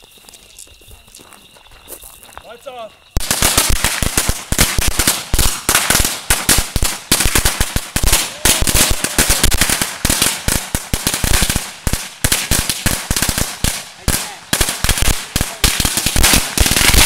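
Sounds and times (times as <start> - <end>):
firecrackers banging rapidly: 3.2 - 17.0.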